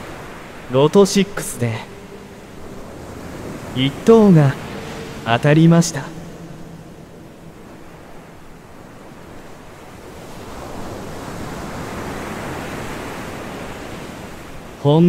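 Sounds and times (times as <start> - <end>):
ocean waves washing: 0.0 - 15.0.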